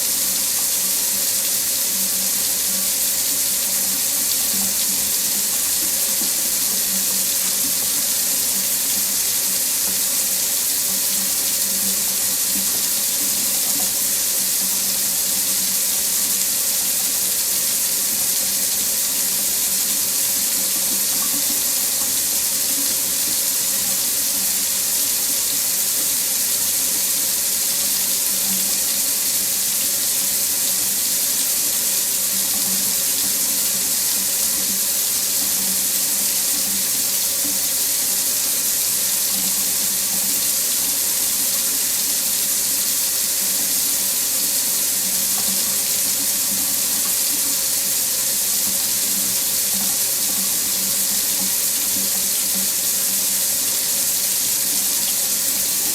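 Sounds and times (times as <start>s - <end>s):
tap water running into sink: 0.0s - 55.9s.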